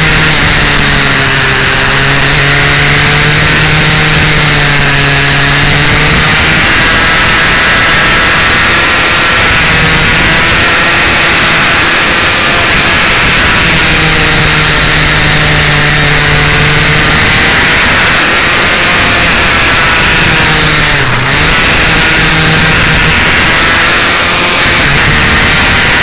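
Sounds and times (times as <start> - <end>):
motorcycle engine at high revs: 0.0 - 26.0
wind rush on microphone: 0.0 - 26.0.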